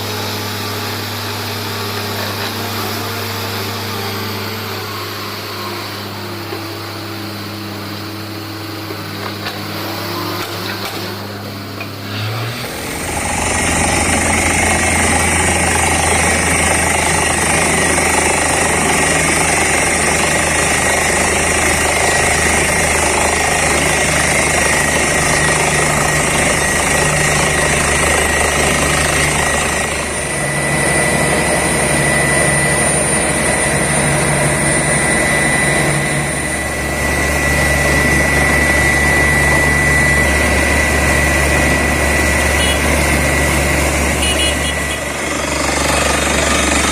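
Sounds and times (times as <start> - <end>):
drilling rig engine drone: 0.0 - 46.9.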